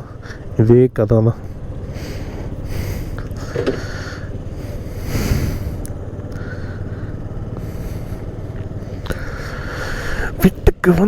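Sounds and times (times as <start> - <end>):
road and wind noise: 0.0 - 11.0
scooter engine running: 0.0 - 11.0.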